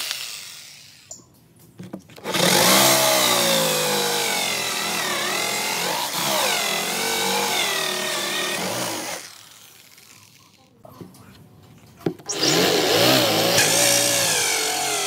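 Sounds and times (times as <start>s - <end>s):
electric drill cutting wood: 0.0s - 1.1s, 2.2s - 10.5s, 12.3s - 15.0s.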